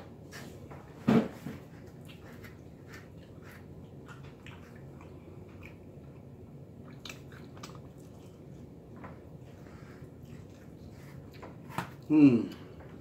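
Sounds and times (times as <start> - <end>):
person chewing: 1.6 - 12.8.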